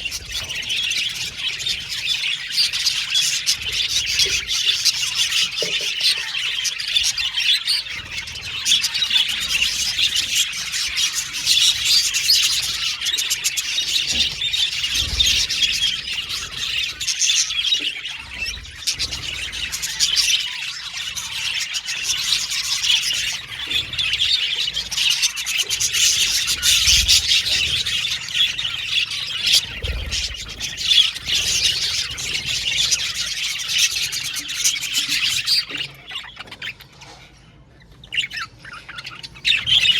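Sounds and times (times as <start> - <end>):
flock of budgerigars chirping: 0.0 - 39.9.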